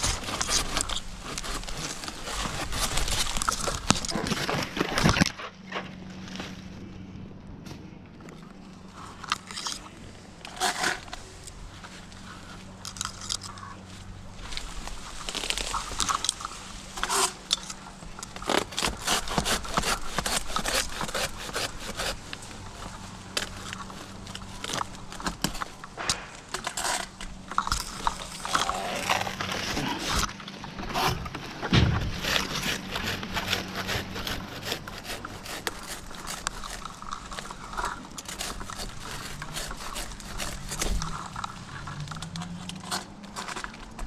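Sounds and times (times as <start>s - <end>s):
dry palm fronds crackling: 0.0s - 7.0s, 7.6s - 44.0s.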